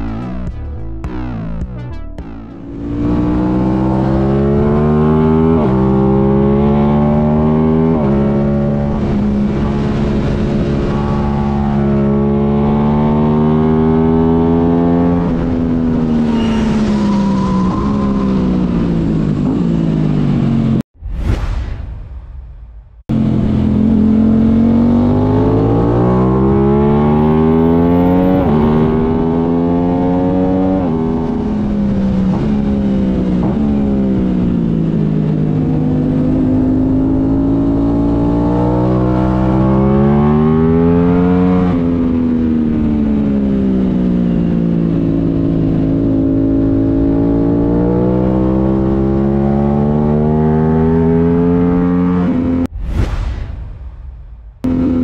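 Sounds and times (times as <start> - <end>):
motorcycle engine revving: 2.2 - 20.8, 23.1 - 52.7, 54.6 - 55.0.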